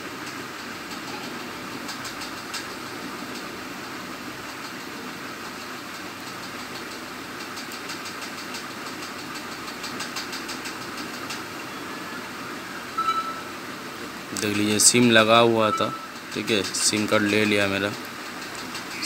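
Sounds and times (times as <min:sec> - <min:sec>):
faint rapid ticking: 0:00.1 - 0:11.6, 0:14.3 - 0:19.0.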